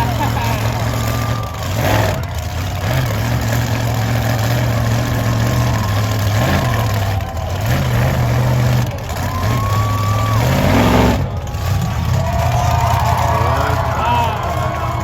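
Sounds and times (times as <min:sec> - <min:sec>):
truck engine idling with throttle blips: 0:00.0 - 0:15.0.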